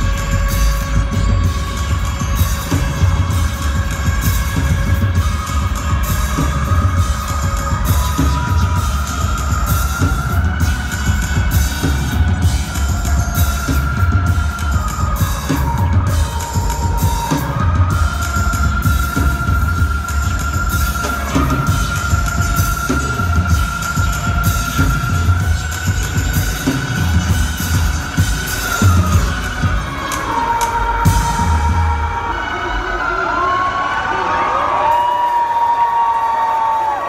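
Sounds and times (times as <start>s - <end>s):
driving drum beat: 0.0s - 33.0s.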